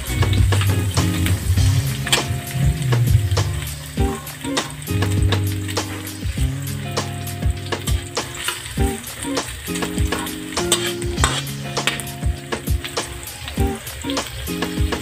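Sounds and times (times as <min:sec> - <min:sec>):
background music with beat: 0:00.0 - 0:15.0
garlic and onion sizzling in oil: 0:00.0 - 0:15.0.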